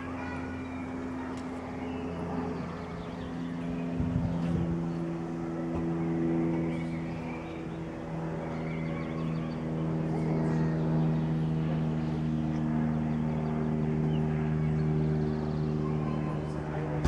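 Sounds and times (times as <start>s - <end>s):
light aircraft passing overhead: 0.0s - 17.0s.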